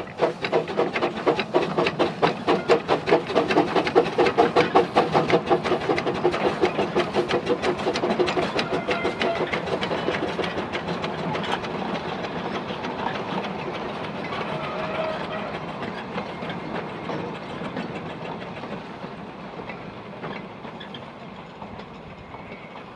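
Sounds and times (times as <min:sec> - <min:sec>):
steam locomotive exhaust beats: 0:00.0 - 0:22.9
wagons rattling over rail joints: 0:00.0 - 0:22.9.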